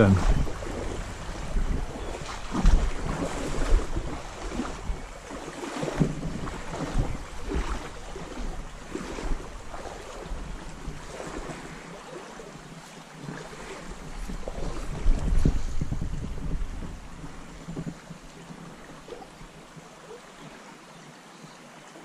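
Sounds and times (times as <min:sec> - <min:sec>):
wind rumbling on microphone: 0:00.0 - 0:20.6
water sloshing and splashing: 0:00.0 - 0:21.0.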